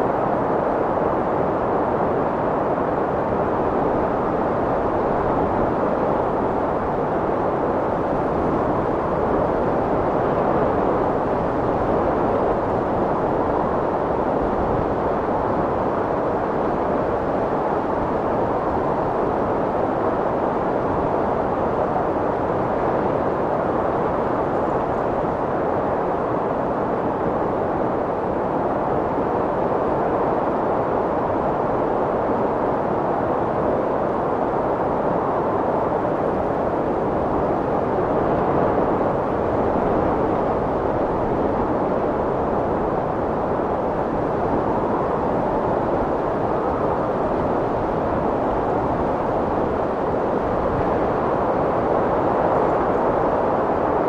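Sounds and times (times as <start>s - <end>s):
strong wind blowing: 0.0s - 54.0s.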